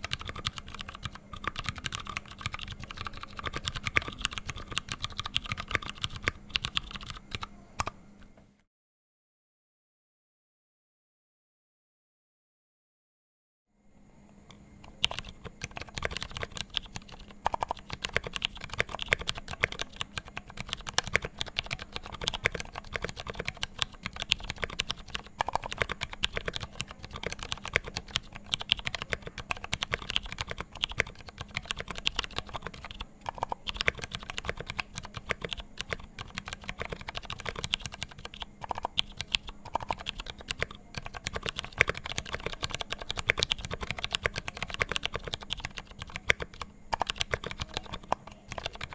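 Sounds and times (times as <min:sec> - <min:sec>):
mechanical keyboard typing: 0:00.0 - 0:08.0, 0:14.8 - 0:48.9
faint steady hum: 0:00.0 - 0:08.7, 0:13.7 - 0:48.9.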